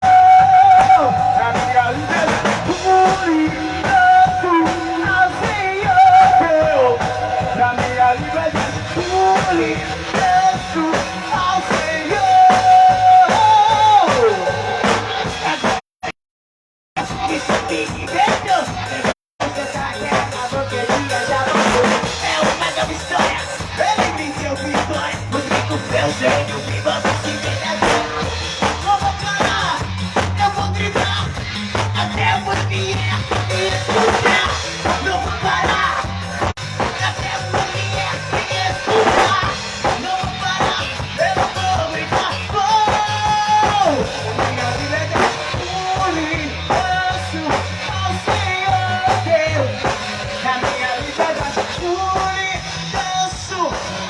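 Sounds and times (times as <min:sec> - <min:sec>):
band playing instrumental: 0:00.0 - 0:15.8, 0:17.0 - 0:54.0
snare and bass drum beat: 0:00.2 - 0:15.8, 0:17.0 - 0:54.0.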